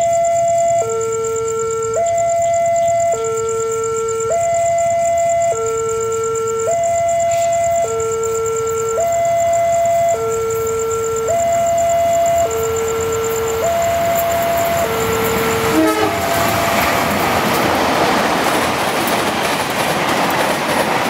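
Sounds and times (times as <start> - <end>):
two-tone level crossing alarm: 0.0 - 19.1.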